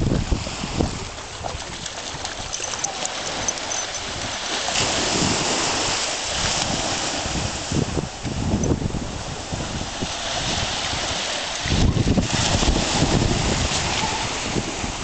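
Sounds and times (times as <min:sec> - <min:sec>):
waves washing on beach: 0:00.0 - 0:15.0
wind buffeting microphone: 0:00.0 - 0:15.0.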